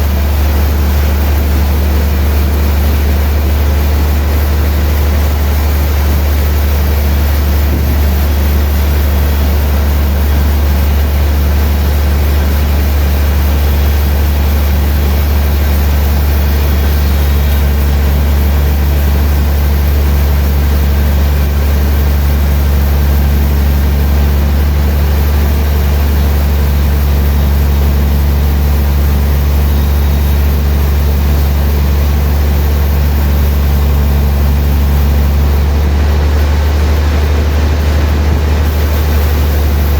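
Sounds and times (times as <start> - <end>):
sawmill machinery engine drone: 0.0 - 39.9.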